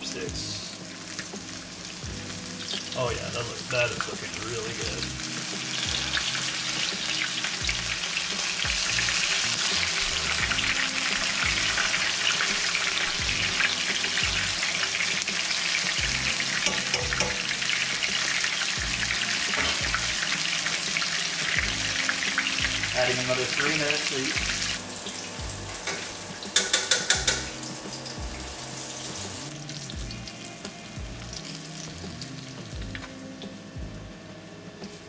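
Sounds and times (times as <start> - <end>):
fish deep-frying in oil: 0.0 - 33.2.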